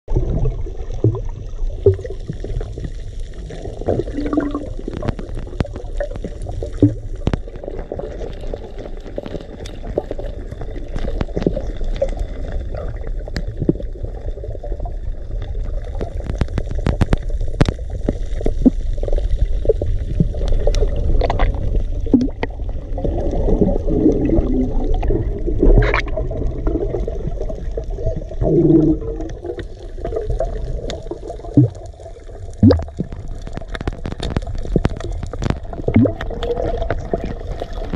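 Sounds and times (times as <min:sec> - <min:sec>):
underwater clicks and crackles: 0:00.1 - 0:37.9
underwater rumble of moving water: 0:00.1 - 0:37.9
water gurgling: 0:00.1 - 0:37.9.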